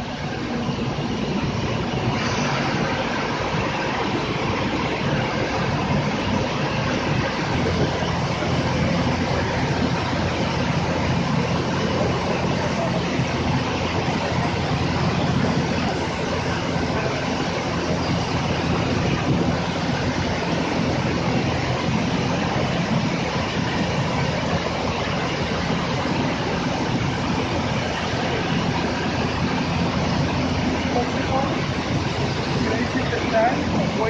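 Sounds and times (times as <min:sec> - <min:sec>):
car wash motor and pump hum: 0:00.0 - 0:34.0
rushing water noise: 0:00.0 - 0:34.0.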